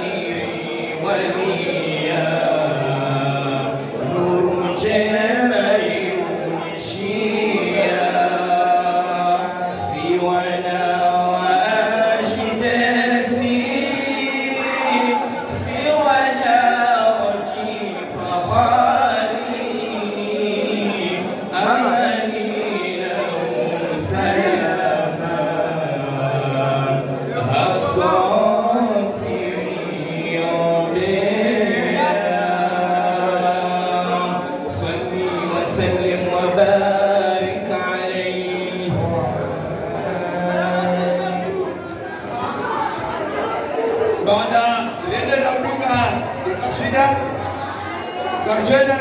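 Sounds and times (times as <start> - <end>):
men chanting unaccompanied: 0.0 - 49.0.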